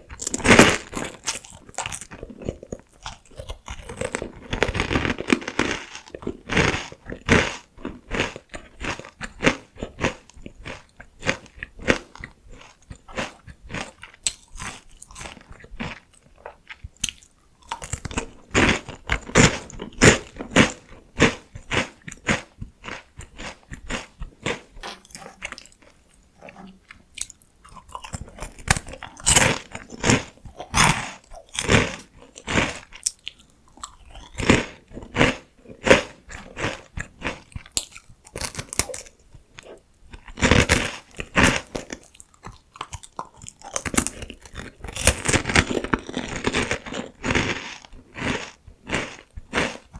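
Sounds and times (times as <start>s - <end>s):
crunching potato sticks: 0.0s - 49.9s.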